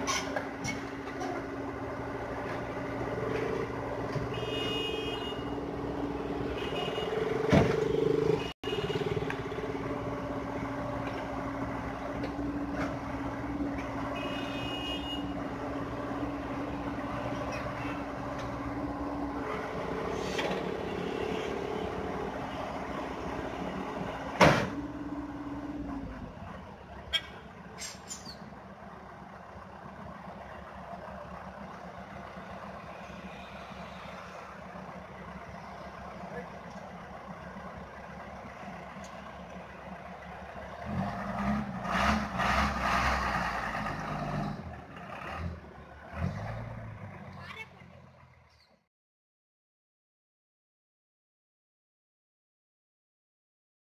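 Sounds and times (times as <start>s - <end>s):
excavator diesel engine running: 0.0s - 48.7s.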